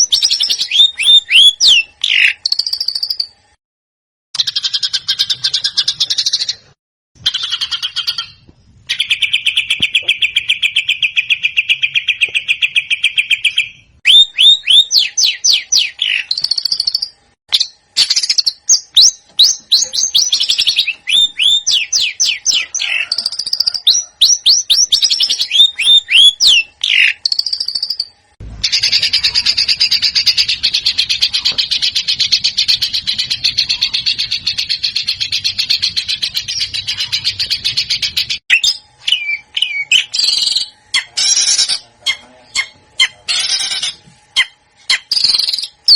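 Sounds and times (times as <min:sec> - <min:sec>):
songbird song with trills: 0:00.0 - 0:03.4, 0:04.4 - 0:45.9.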